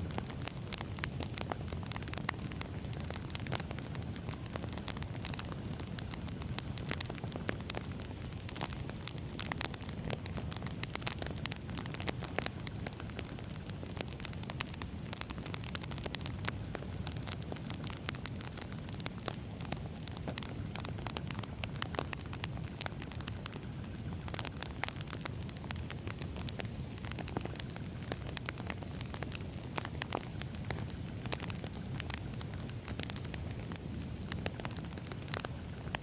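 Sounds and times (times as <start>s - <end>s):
logs crackling and popping: 0.0s - 36.0s
wood fire rumbling: 0.0s - 36.0s.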